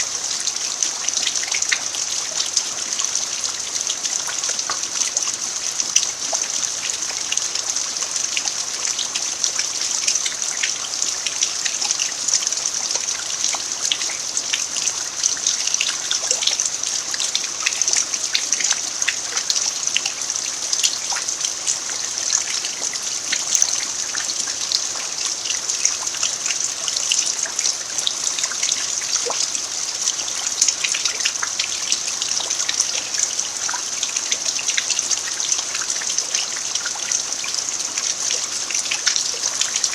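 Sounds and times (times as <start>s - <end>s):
steady rain falling: 0.0s - 39.9s
trickling water: 0.0s - 39.9s.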